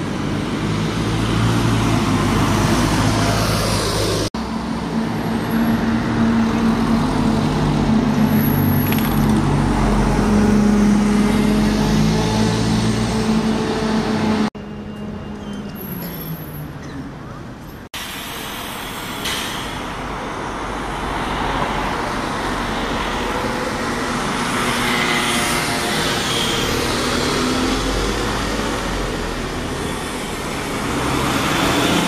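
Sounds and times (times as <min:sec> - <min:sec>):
diesel buses passing: 0:00.0 - 0:32.0
road noise: 0:00.0 - 0:32.0.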